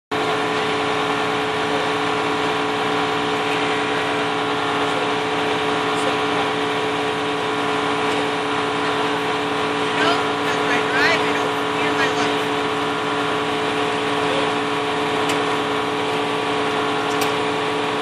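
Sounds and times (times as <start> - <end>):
truck engine humming steadily: 0.1 - 18.0.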